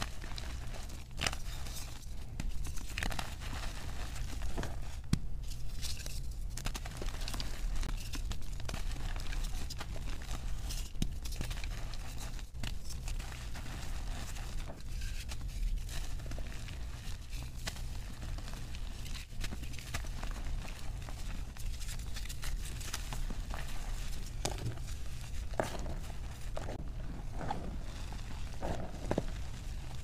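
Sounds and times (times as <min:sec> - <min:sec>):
chalk crunching and crumbling: 0:00.0 - 0:30.0.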